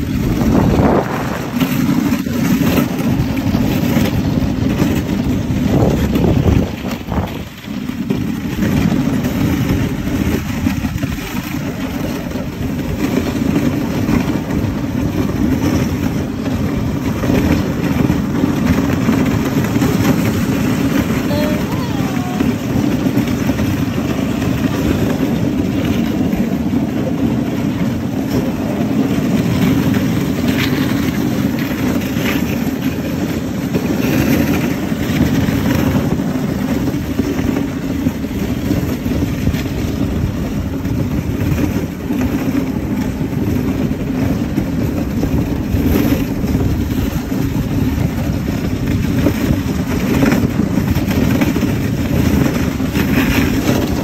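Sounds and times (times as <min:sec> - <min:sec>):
sled runners sliding on snow: 0:00.0 - 0:54.0
wind buffeting microphone: 0:00.0 - 0:54.0.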